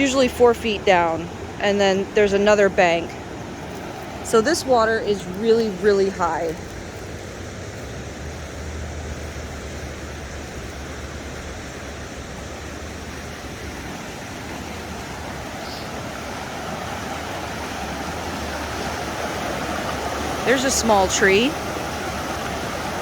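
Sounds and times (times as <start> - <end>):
fast water rushing: 0.0 - 23.0
low rumble of water: 0.0 - 23.0.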